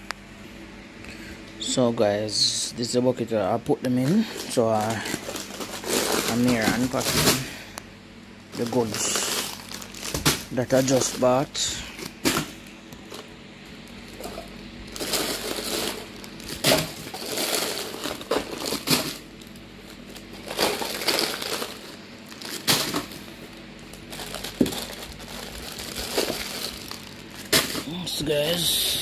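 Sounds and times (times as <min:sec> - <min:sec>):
plastic wrappers crinkling: 0:03.8 - 0:07.8, 0:08.4 - 0:28.9
paper bag rustling: 0:04.1 - 0:07.6, 0:08.5 - 0:29.0.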